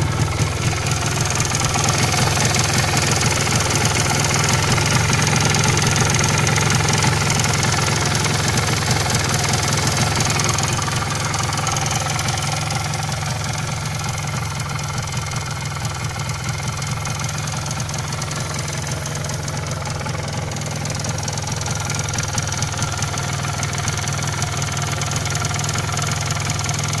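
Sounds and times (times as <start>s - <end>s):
two-stroke engine idling: 0.0s - 27.0s.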